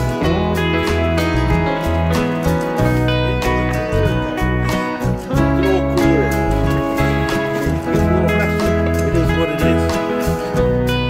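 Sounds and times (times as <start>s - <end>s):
country guitar music with bass: 0.0s - 11.0s.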